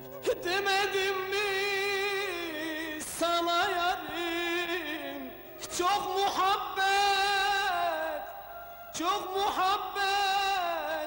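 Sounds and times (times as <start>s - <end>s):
man singing: 0.1s - 11.0s.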